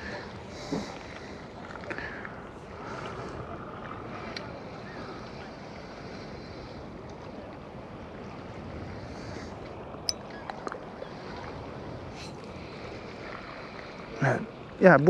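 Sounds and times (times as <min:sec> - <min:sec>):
sea waves: 0:00.0 - 0:15.0
wind: 0:00.0 - 0:15.0.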